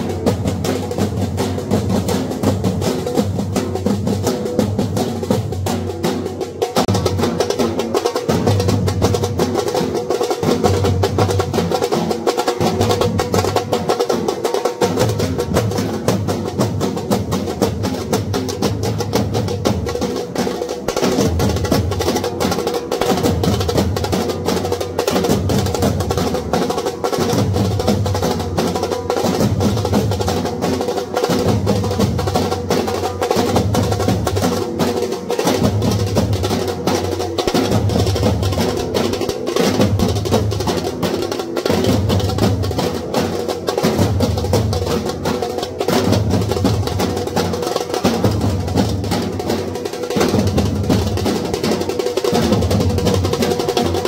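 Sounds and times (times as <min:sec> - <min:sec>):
deep drum beats: 0:00.0 - 0:54.0
fast dense drumming: 0:00.0 - 0:54.0.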